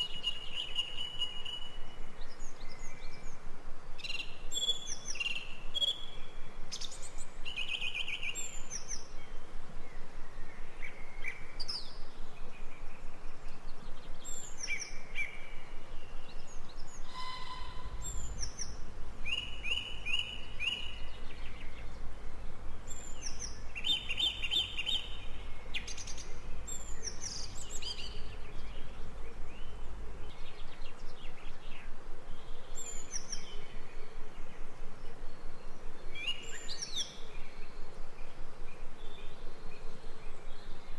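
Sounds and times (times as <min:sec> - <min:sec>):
birds singing and chirping: 0:00.0 - 0:03.4, 0:04.0 - 0:40.9
background hiss: 0:00.0 - 0:40.9.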